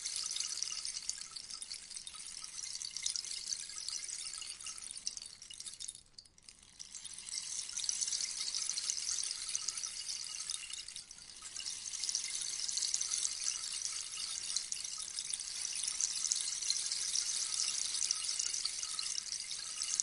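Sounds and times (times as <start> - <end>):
rainstick pellets trickling: 0.0 - 20.0.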